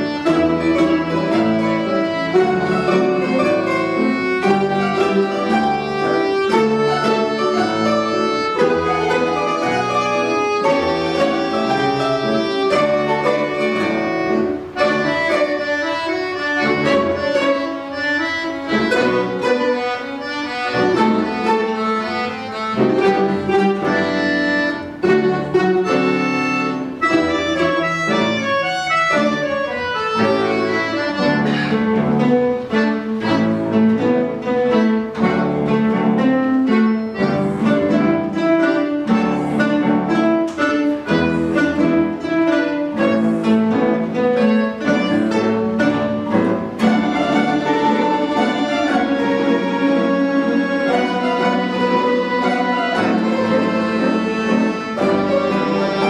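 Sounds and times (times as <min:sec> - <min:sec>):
folk-instrument ensemble playing jazz: 0:00.0 - 0:56.0.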